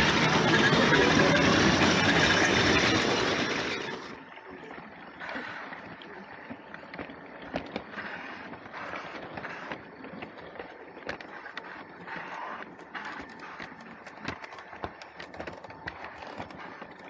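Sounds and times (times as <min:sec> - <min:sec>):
toy train rolling on plastic track: 0:00.0 - 0:17.0.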